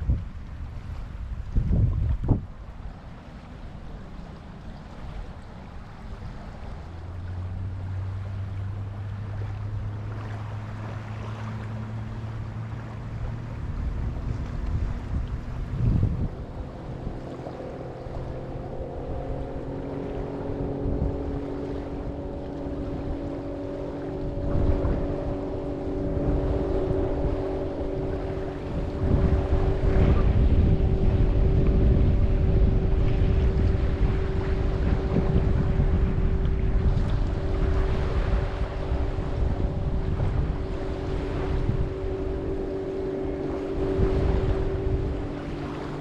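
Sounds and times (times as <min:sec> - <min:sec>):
engine drone: 0:00.0 - 0:46.0
surf washing: 0:00.0 - 0:46.0
wind buffeting the microphone: 0:00.0 - 0:46.0.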